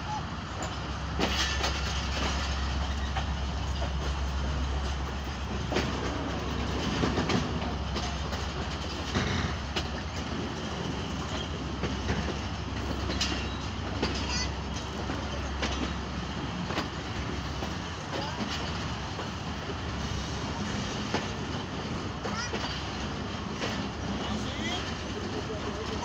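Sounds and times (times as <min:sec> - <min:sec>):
train low rumble: 0:00.0 - 0:26.0
wheels clacking over rail joints: 0:00.4 - 0:26.0.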